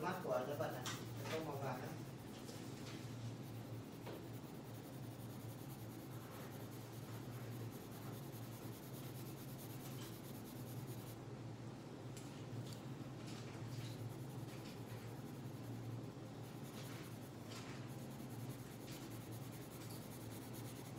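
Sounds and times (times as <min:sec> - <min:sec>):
pencil scratching on paper: 0:00.0 - 0:11.2, 0:13.3 - 0:20.9
low steady hum: 0:00.0 - 0:20.9.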